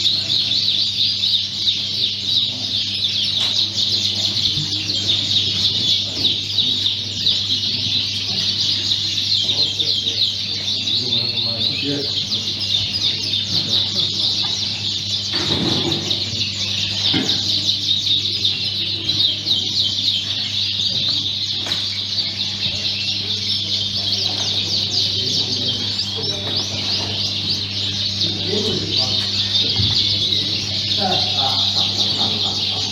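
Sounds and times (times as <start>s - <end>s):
canaries singing: 0.0s - 32.9s.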